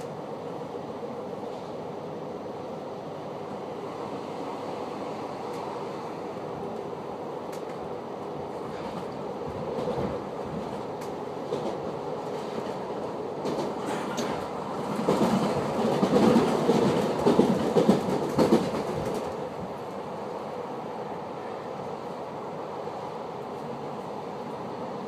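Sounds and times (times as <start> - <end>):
train coach rumbling on track: 0.0 - 25.0.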